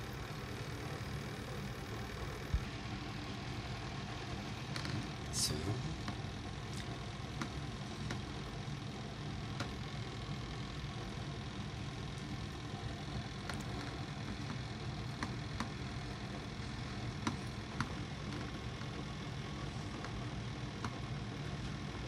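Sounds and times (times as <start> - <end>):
toaster oven humming: 0.0 - 22.0.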